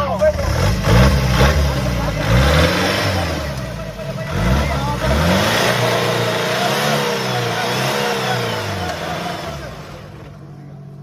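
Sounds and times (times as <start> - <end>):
jeep engine revving: 0.0 - 11.0
loud rushing noise: 0.4 - 10.2.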